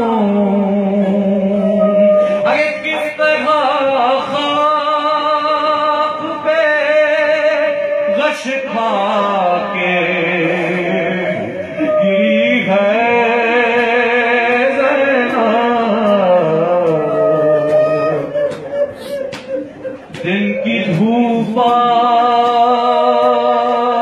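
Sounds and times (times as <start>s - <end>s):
man chanting a lament: 0.0s - 24.0s.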